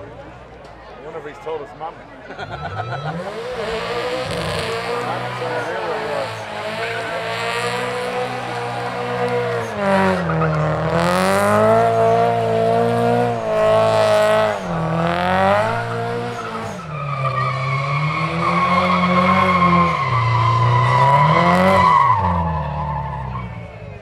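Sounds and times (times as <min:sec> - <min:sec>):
car engine revving hard: 0:02.6 - 0:23.6
tyre screech: 0:02.6 - 0:23.9.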